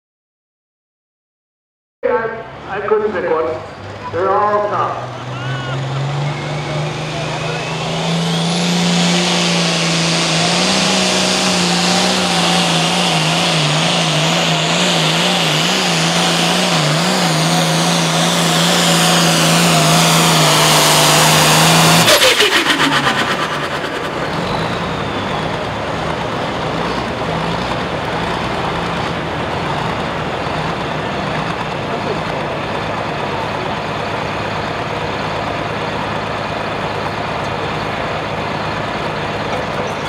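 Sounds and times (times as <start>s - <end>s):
tractor diesel engine at full throttle: 2.0s - 40.0s.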